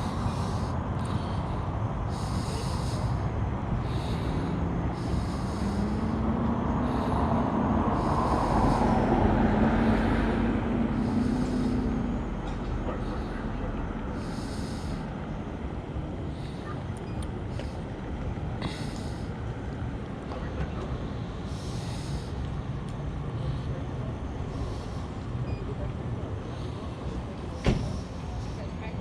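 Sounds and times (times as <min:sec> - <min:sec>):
heavy vehicle engine passing: 0:00.0 - 0:29.0
street traffic: 0:00.0 - 0:29.0.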